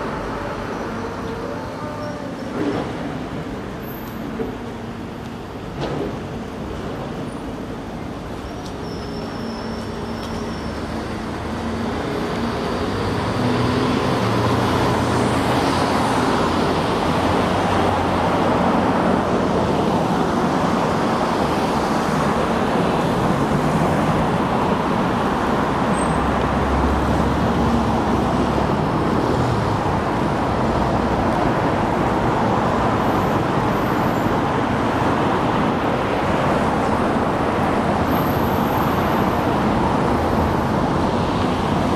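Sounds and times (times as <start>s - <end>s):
passing car engines and tyres: 0.0s - 41.9s.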